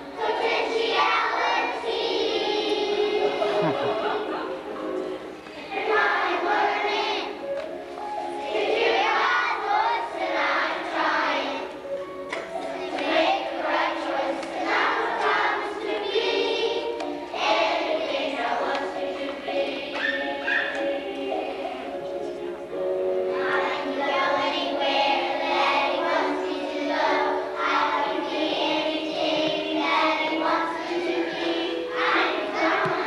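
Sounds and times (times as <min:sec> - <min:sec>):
children singing together: 0:00.0 - 0:33.0.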